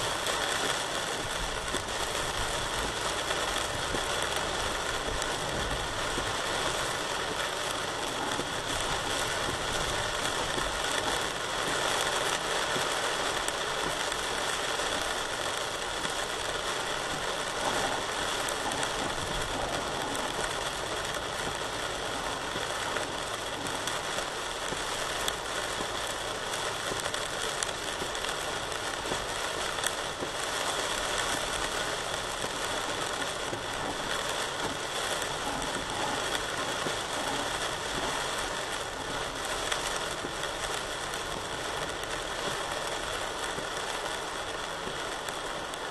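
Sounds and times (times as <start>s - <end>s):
heavy rain and wind: 0.0s - 45.9s
raindrop ticks: 0.0s - 45.9s.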